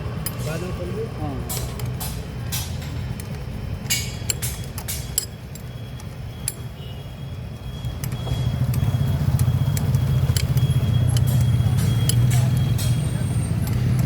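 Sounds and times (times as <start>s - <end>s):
engine rumbling: 0.0s - 14.0s
metal tools clinking: 0.2s - 0.8s, 1.4s - 6.8s, 7.8s - 14.0s.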